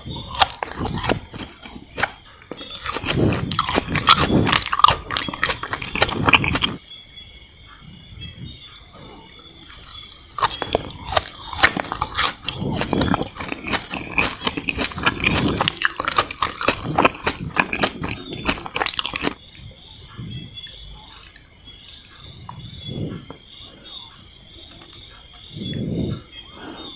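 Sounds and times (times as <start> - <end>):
chewing crunchy sugared candy: 0.0 - 6.8, 8.4 - 26.9.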